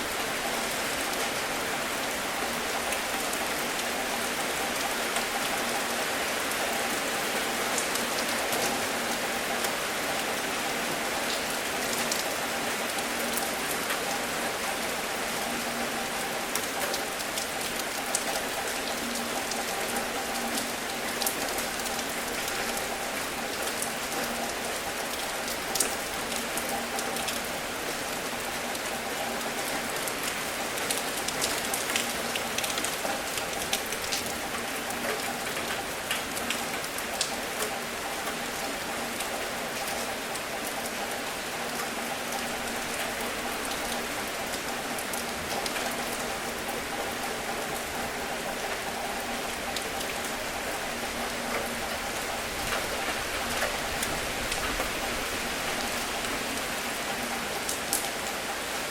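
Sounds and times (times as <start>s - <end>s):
raindrops ticking on surface: 0.0s - 58.9s
steady rain hiss: 0.0s - 58.9s.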